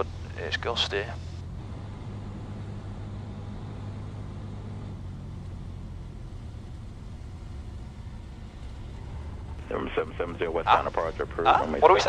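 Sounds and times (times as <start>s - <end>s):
aircraft engine droning: 0.0s - 12.0s.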